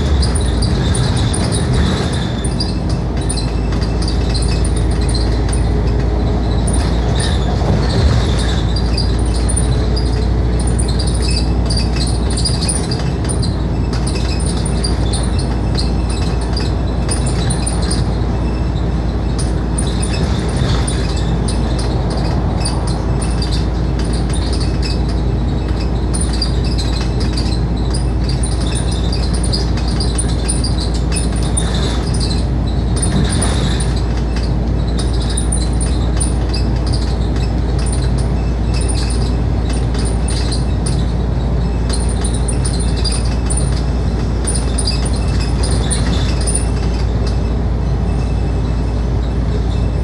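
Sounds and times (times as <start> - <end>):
bus engine and tyres rumbling: 0.0 - 50.0
metallic rattling of interior fittings: 0.0 - 50.0.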